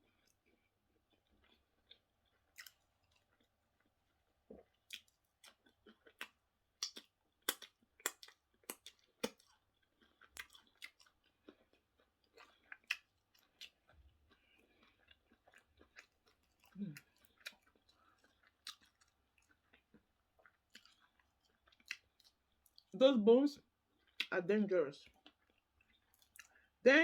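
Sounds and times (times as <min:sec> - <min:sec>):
chewing with wet mouth clicks: 0:00.0 - 0:22.9, 0:23.9 - 0:24.4, 0:25.0 - 0:26.7.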